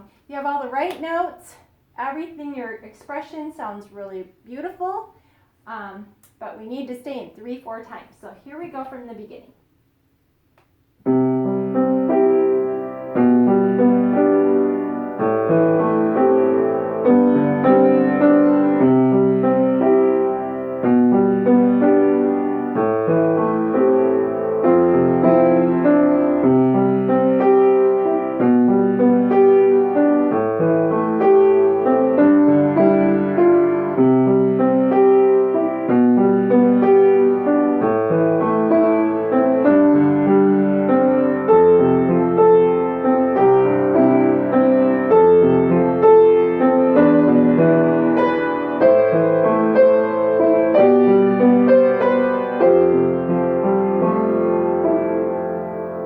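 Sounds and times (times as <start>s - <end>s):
gentle piano piece: 11.0s - 56.0s.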